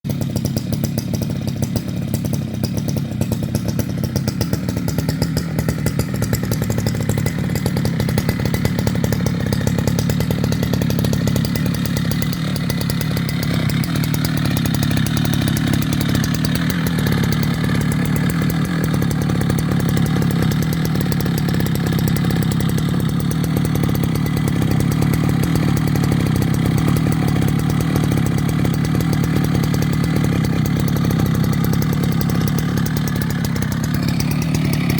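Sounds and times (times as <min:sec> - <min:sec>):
chainsaw running: 0:00.1 - 0:34.9.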